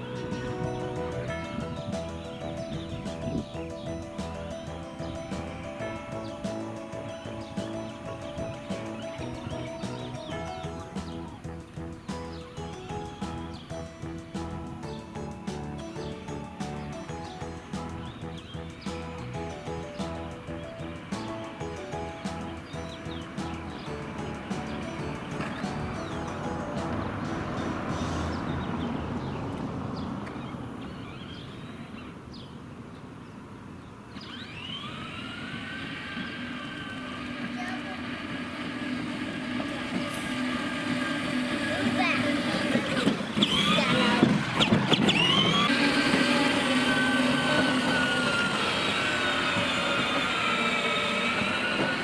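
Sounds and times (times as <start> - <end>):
electric toy truck motor whirring: 0.0 - 28.3, 34.1 - 52.0
birds chirping: 0.0 - 52.0.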